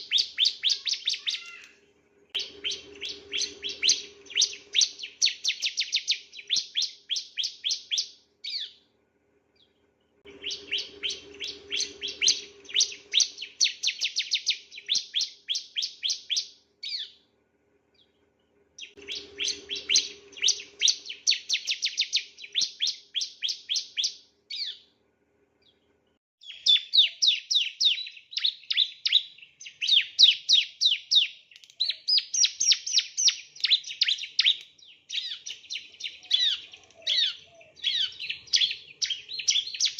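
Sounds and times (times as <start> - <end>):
bird singing rapid chirps: 0.0 - 1.7, 2.4 - 8.8, 9.6 - 17.2, 18.8 - 24.9, 26.4 - 39.9.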